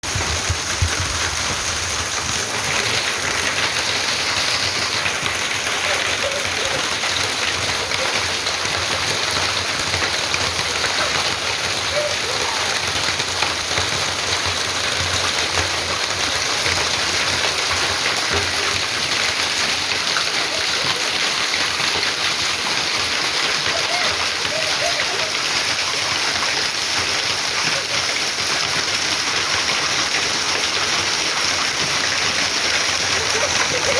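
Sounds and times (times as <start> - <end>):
hail falling: 0.0 - 33.9.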